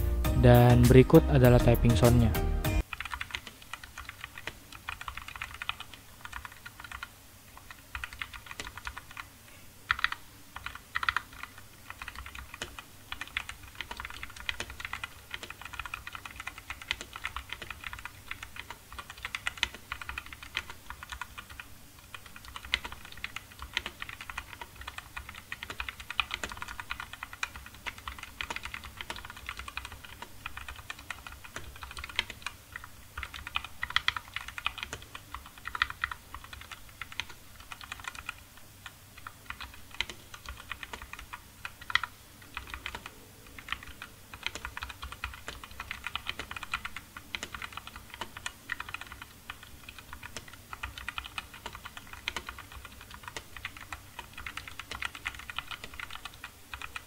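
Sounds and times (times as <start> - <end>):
mechanical keyboard typing: 2.0 - 9.3, 9.9 - 57.0.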